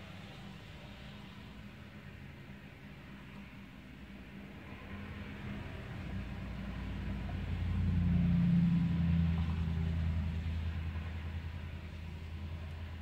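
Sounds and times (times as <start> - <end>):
cars passing on wet street: 0.0 - 13.0
engine and tyre rumble: 0.0 - 13.0.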